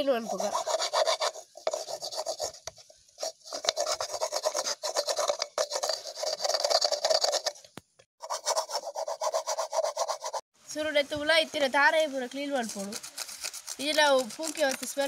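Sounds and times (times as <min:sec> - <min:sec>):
metal tool scraping coconut shell: 0:00.0 - 0:10.4, 0:12.5 - 0:15.0.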